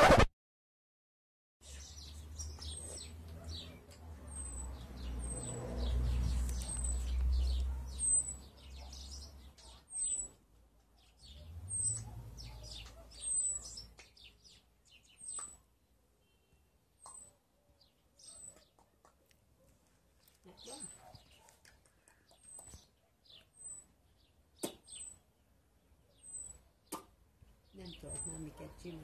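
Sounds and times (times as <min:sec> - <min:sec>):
small birds chirping: 0:01.6 - 0:29.0.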